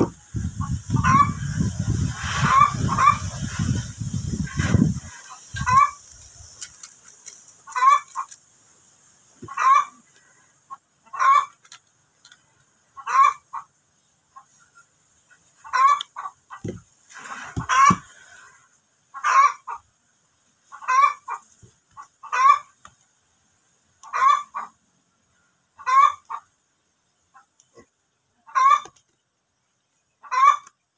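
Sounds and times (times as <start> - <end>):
chicken clucking: 0.0 - 8.4, 9.4 - 20.0, 20.6 - 23.1, 24.0 - 26.6, 27.2 - 29.2, 29.9 - 30.9.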